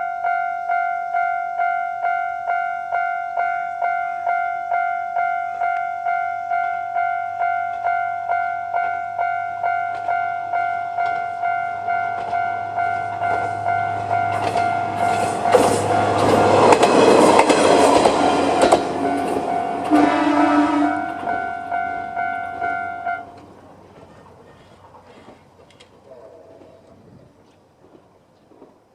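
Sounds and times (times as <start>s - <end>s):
level crossing warning bell: 0.0s - 25.2s
railcar engine hum: 0.0s - 28.9s
wheels rumbling and clicking on rails: 0.0s - 28.9s.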